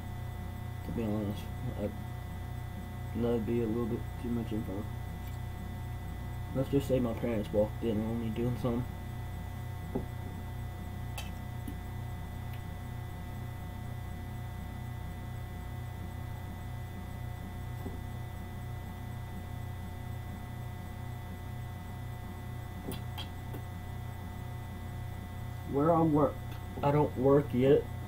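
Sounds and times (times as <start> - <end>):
low electrical hum pulsing: 0.0 - 28.0.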